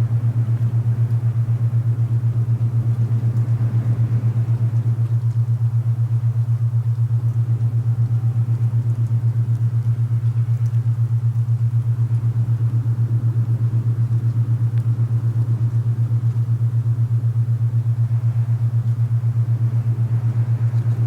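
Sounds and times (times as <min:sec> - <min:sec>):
low throbbing tone: 0:00.0 - 0:21.0.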